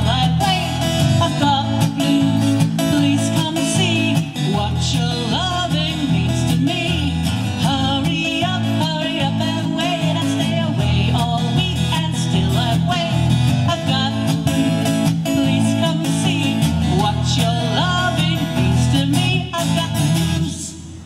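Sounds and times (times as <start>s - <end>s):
person singing: 0.0s - 20.9s
strummed acoustic guitar: 0.0s - 21.0s.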